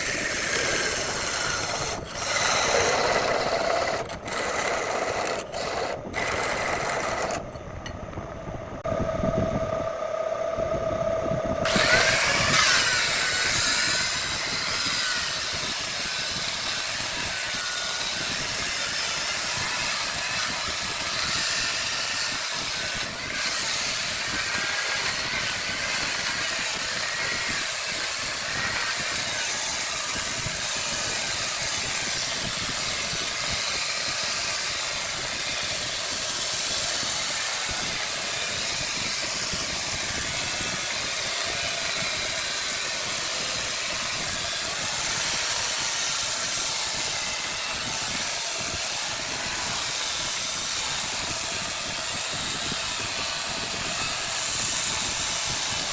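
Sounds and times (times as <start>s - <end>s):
wood lathe hissing: 0.0s - 7.4s, 11.6s - 55.9s.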